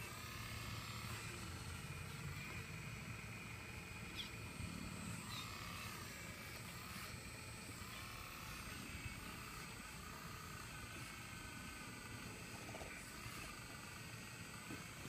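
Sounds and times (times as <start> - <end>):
engine low rumble with whine: 0.0 - 15.0.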